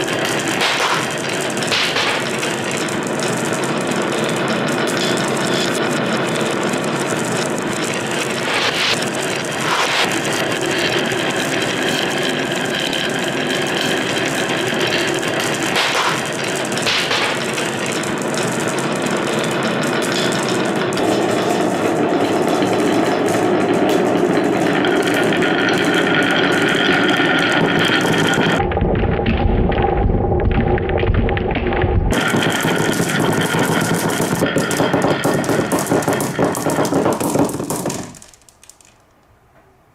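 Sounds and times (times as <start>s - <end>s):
marbles clattering on wood: 0.0s - 28.6s, 32.1s - 39.3s.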